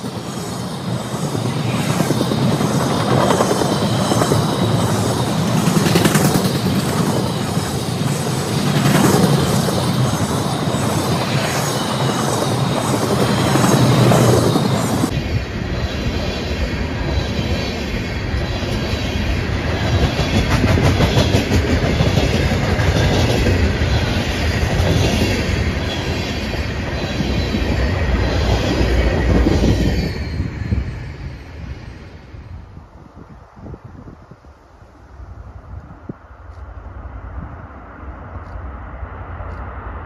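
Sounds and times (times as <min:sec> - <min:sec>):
freight train wheels rumbling: 0:00.0 - 0:34.5.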